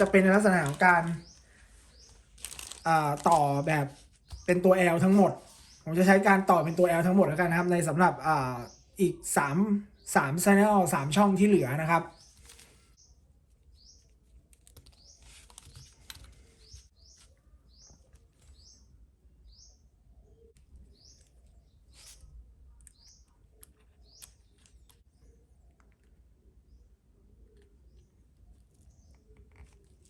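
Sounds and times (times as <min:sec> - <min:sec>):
small bird chirping: 0:00.0 - 0:07.1, 0:08.6 - 0:30.0.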